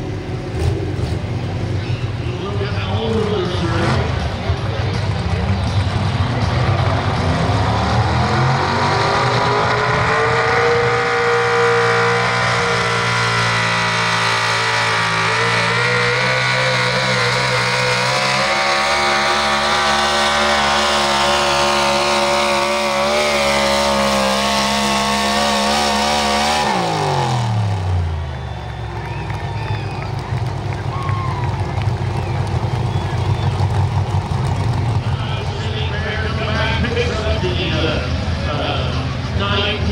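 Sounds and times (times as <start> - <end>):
truck engine at full throttle: 0.0 - 39.9.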